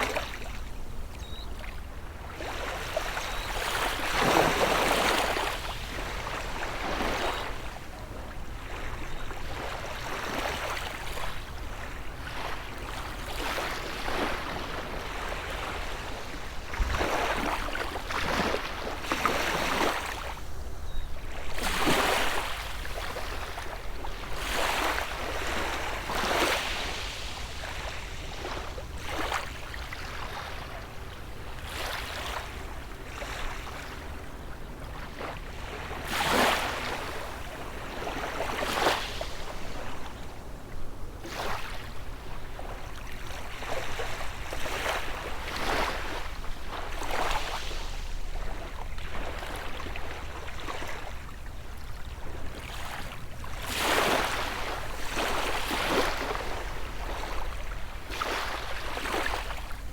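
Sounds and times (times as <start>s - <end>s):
low rumble of surf: 0.0s - 59.9s
small waves breaking on shore: 0.0s - 59.9s.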